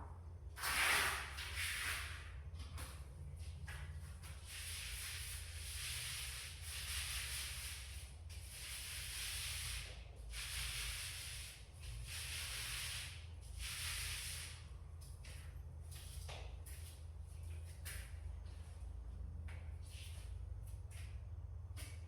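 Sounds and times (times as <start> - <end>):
paint roller on wall: 0.6 - 18.8.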